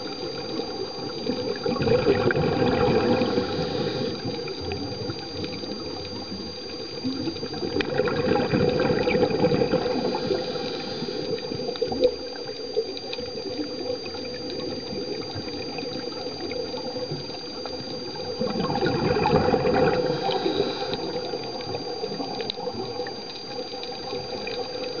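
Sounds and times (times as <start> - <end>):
regulator bubbling: 0.0 - 25.0
thin high tone: 0.0 - 25.0
underwater watery hiss: 0.0 - 25.0.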